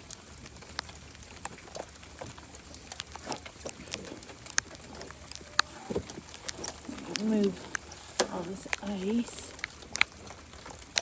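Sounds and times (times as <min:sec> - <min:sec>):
light clicks and ticks: 0:00.0 - 0:11.0.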